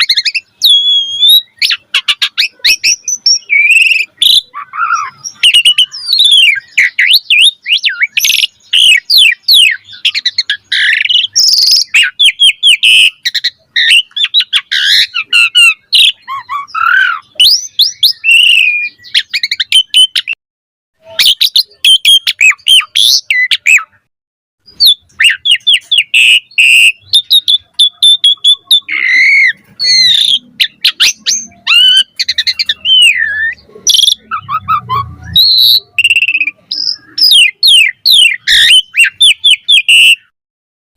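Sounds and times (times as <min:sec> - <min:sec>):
starling singing: 0:00.0 - 0:20.4, 0:21.0 - 0:40.4.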